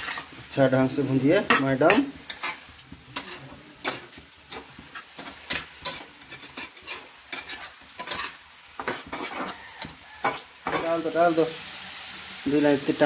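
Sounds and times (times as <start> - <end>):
spatula scraping a wok: 0.0 - 12.5
greens sizzling: 0.0 - 13.0.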